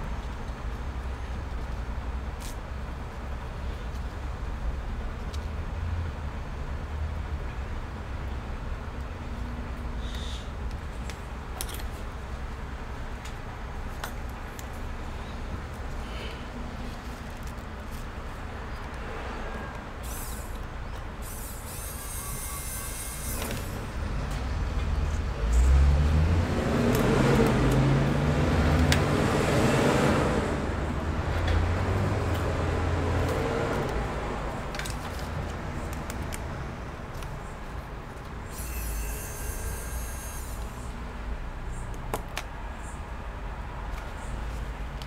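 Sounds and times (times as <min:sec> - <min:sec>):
heavy road vehicle engine rumble: 0:00.0 - 0:45.0.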